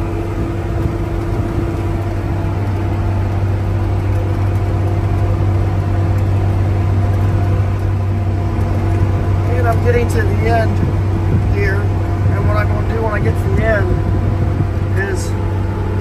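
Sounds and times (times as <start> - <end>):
tractor engine drone: 0.0 - 16.0.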